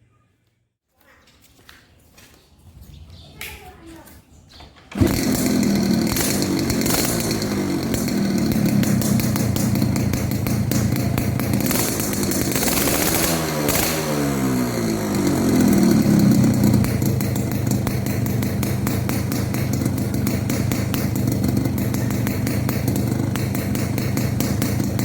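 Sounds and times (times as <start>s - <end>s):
two-stroke motorcycle engine: 4.9s - 25.0s.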